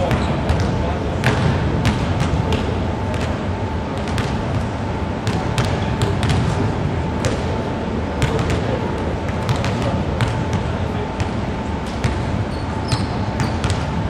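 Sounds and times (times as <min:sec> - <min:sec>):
basketballs bouncing on wood floor: 0:00.0 - 0:06.6, 0:08.2 - 0:11.4, 0:12.0 - 0:14.0.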